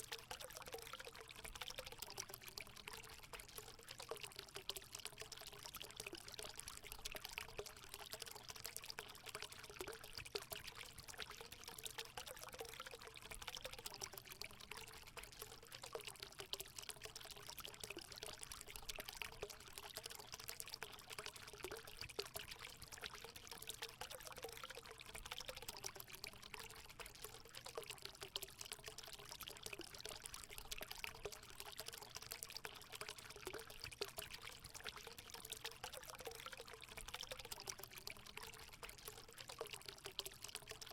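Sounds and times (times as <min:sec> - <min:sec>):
water pouring into pool: 0:00.0 - 0:40.9.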